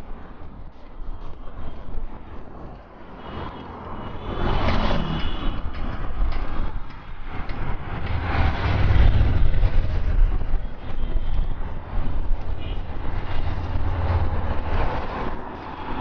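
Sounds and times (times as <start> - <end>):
cars and buses passing: 0.0 - 16.0
wind rumble on microphone: 0.0 - 16.0.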